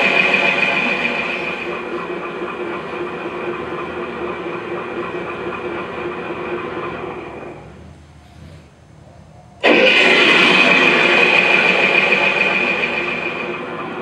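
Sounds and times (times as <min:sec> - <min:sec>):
simulated engine from small speaker: 0:00.0 - 0:14.0.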